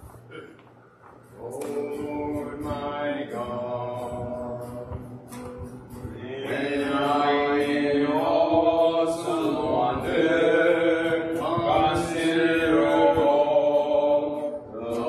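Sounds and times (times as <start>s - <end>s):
people singing a slow hymn: 1.3s - 15.0s.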